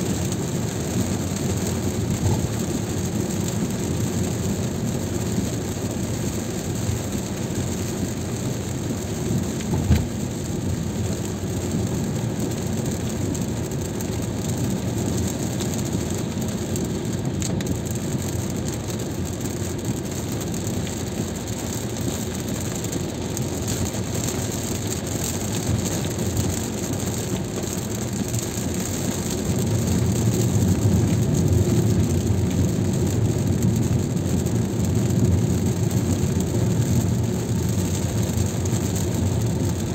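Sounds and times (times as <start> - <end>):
heavy rain on a car: 0.0 - 39.9
tyres on a wet road: 0.0 - 39.9.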